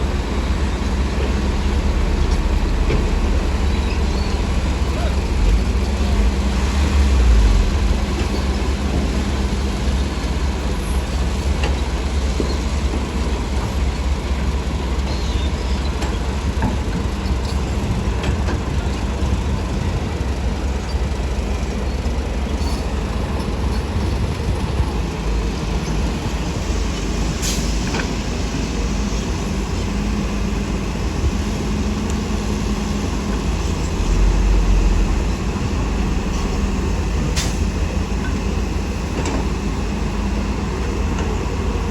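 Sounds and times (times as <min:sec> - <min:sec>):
heavy diesel engines droning: 0:00.0 - 0:41.9.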